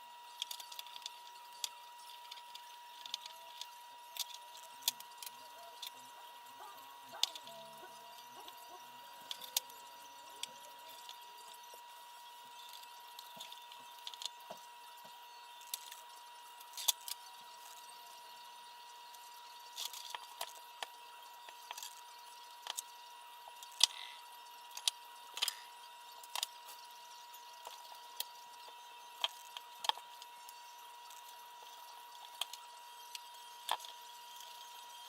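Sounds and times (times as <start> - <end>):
faint high-pitched hum: 0.0 - 35.0.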